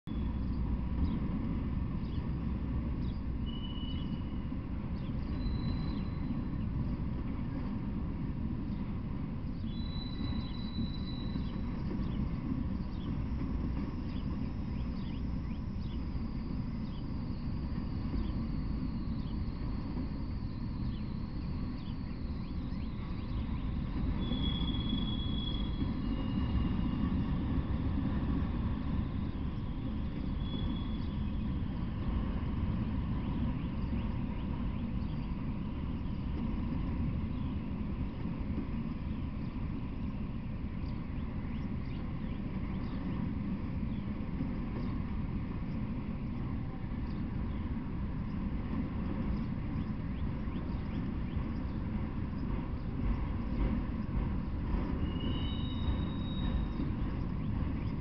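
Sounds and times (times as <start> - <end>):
freight train rumbling past: 0.1 - 58.0.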